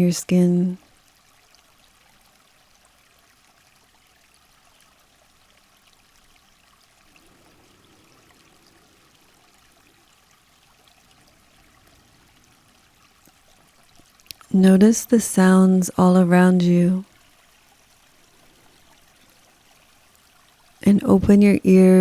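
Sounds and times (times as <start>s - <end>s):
forest stream trickling: 0.0s - 22.0s.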